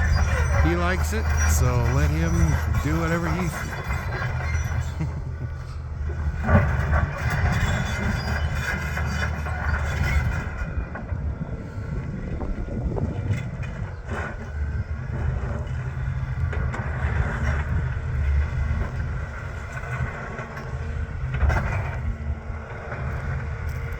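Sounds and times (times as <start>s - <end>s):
heavy machinery engine rumbling: 0.0s - 23.9s.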